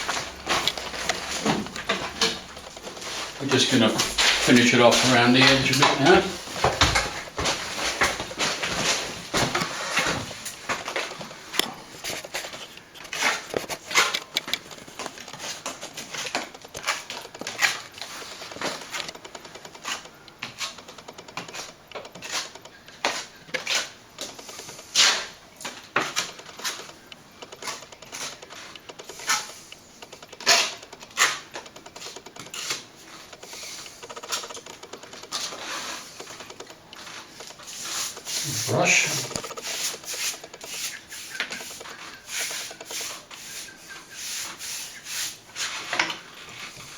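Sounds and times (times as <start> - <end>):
plastering tool scraping and tapping: 0.0 - 46.9.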